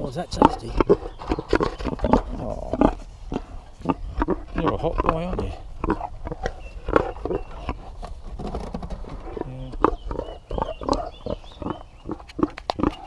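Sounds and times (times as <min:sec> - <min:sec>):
pig grunting and snuffling: 0:00.0 - 0:13.0.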